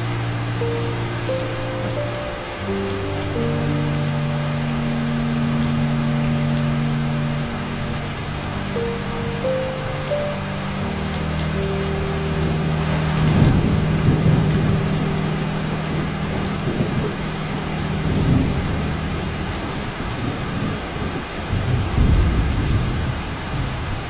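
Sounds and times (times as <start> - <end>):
heavy rain falling: 0.0 - 24.0
thunder rumbling: 0.0 - 24.0.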